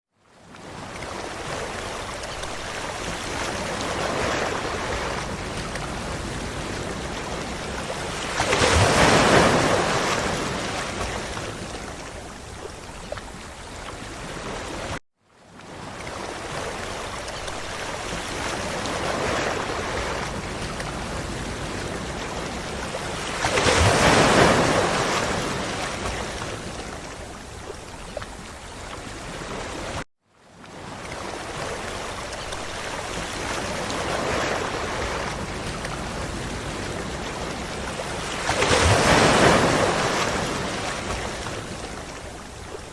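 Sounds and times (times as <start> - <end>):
ocean surf washing on beach: 0.3 - 42.9.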